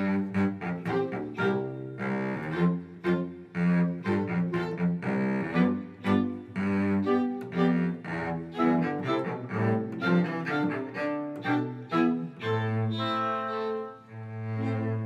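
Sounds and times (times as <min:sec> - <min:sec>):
orchestra playing low notes: 0:00.0 - 0:15.0.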